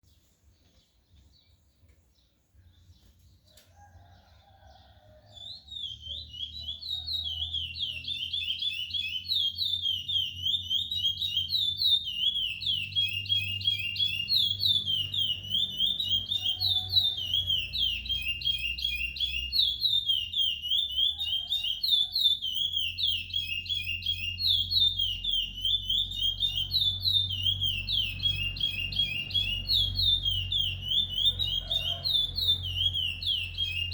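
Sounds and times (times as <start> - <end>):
finch singing whistled notes: 4.1 - 33.9.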